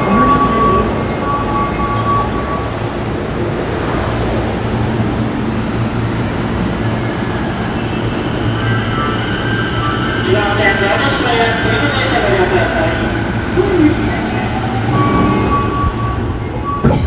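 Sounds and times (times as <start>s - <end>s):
train wheels rumbling in tunnel: 0.0s - 17.0s.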